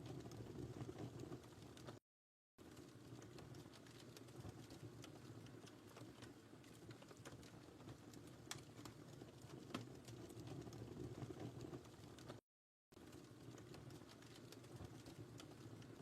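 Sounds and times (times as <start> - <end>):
low rumble of flames: 0.0 - 2.0, 2.6 - 12.4, 13.0 - 16.0
wood fire crackling and popping: 0.0 - 2.0, 2.6 - 12.4, 13.0 - 16.0.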